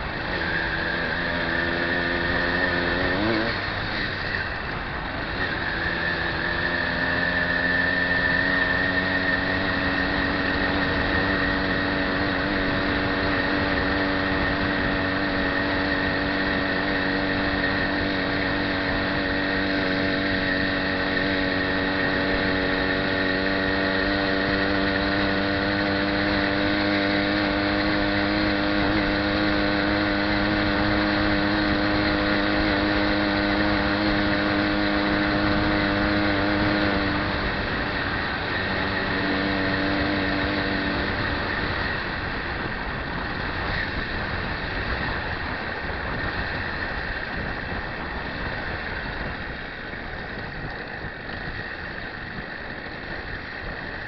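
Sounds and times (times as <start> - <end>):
motorbike engine humming: 0.0 - 54.0
road noise: 0.0 - 54.0.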